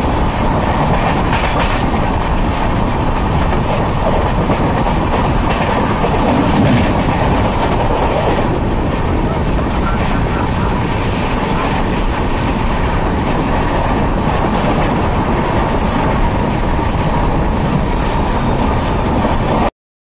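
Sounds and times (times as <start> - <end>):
train wheels running on rails: 0.0 - 19.7.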